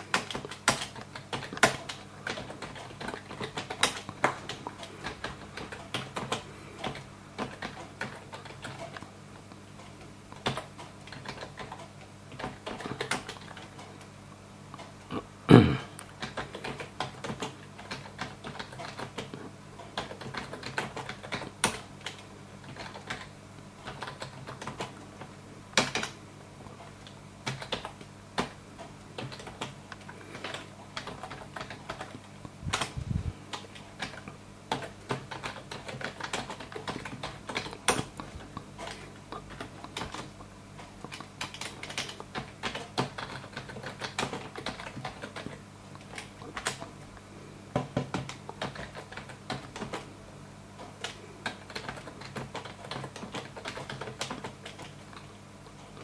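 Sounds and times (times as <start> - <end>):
typing on computer keyboard: 0.0 - 9.1, 9.8 - 14.1, 16.0 - 25.0, 25.8 - 26.2, 26.8 - 47.0, 47.7 - 50.1, 50.8 - 56.0
steady low hum: 0.0 - 56.0.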